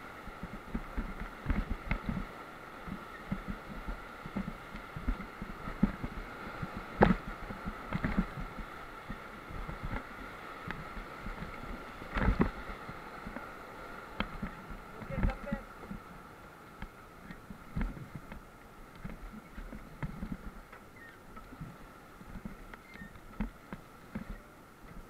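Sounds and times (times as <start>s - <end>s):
rushing water: 0.0s - 25.0s
waves thumping raft: 0.0s - 25.0s.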